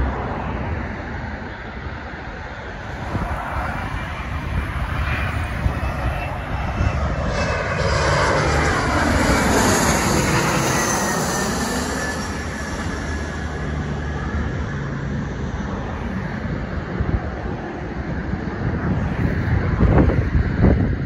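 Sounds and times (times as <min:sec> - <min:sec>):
jet plane roaring overhead: 0:00.0 - 0:21.0.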